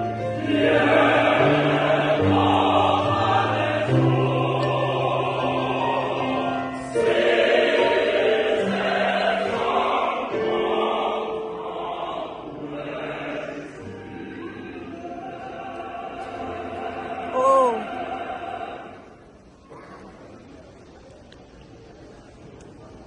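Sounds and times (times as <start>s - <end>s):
choir singing a hymn: 0.0s - 19.4s.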